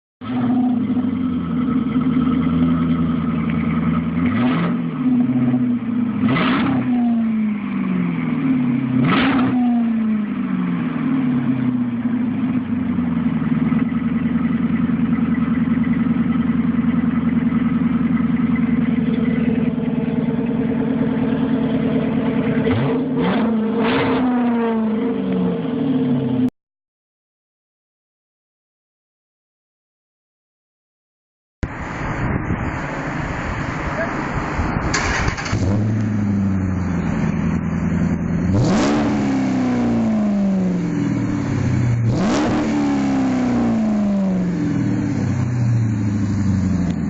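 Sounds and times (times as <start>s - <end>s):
car engine idling and revving: 0.2s - 26.5s, 31.6s - 47.0s.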